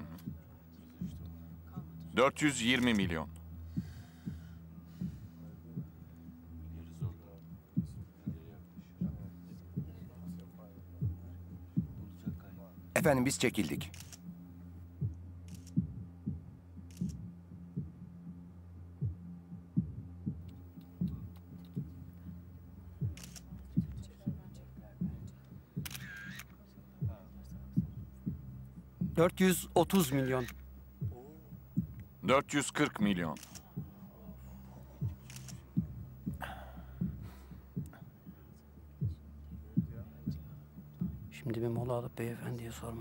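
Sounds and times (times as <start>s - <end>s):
low heartbeat-like pulse: 0.0s - 2.1s, 2.7s - 13.2s, 13.9s - 43.0s
steady low drone: 0.0s - 43.0s.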